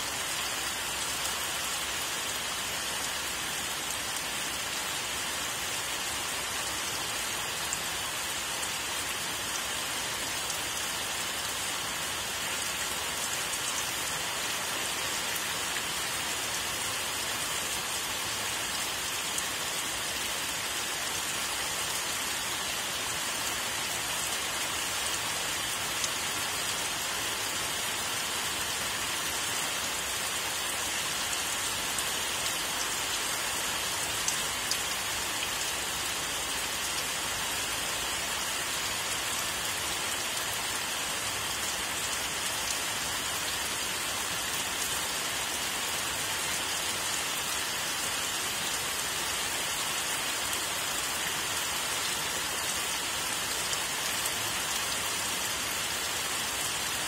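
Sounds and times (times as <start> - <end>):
rain falling on leafy trees: 0.0 - 57.0.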